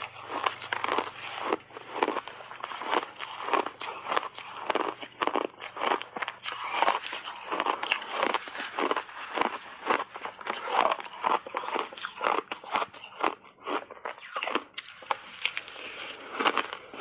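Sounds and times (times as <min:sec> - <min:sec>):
crunching and chewing shaved ice: 0:00.0 - 0:17.0.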